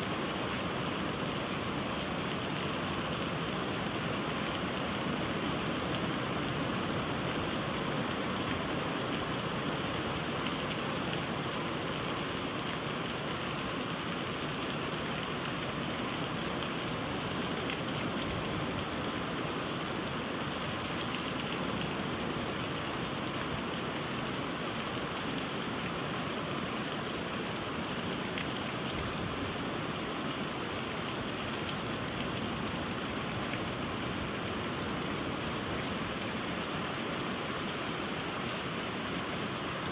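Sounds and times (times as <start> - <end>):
rain on trees and pond: 0.0 - 39.9.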